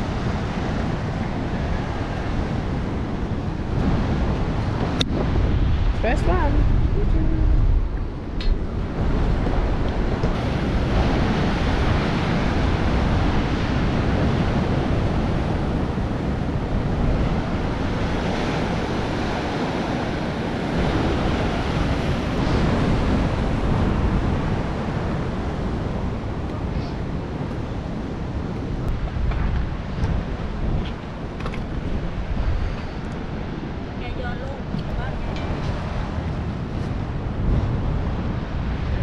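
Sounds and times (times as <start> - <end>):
ocean surf breaking: 0.0 - 39.0
wind buffeting microphone: 0.0 - 39.0.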